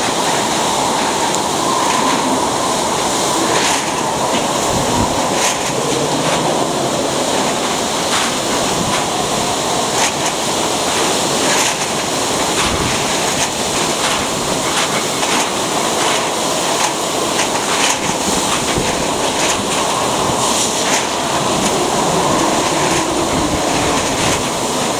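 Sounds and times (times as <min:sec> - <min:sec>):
wind and rain rushing: 0:00.0 - 0:24.9.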